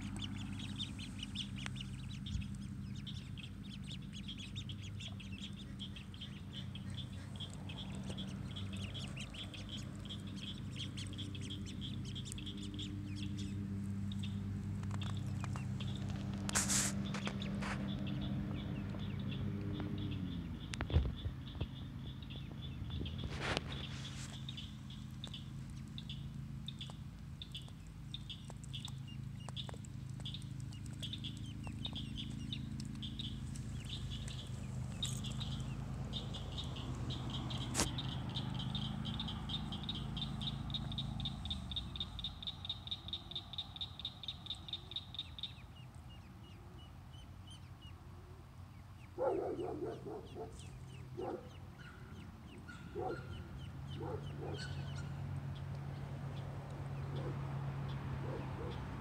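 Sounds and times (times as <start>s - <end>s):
ducklings peeping: 0.0s - 59.0s
steady low hum: 0.0s - 59.0s.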